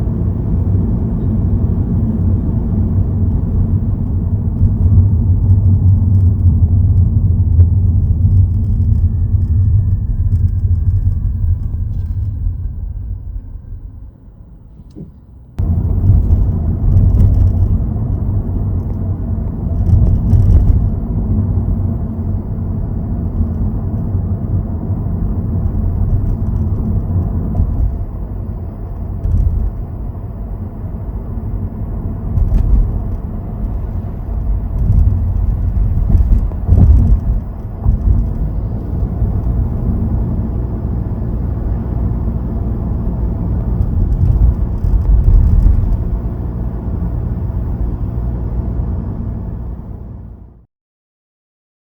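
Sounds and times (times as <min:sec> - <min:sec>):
car driving rumble and road noise: 0:00.0 - 0:50.7.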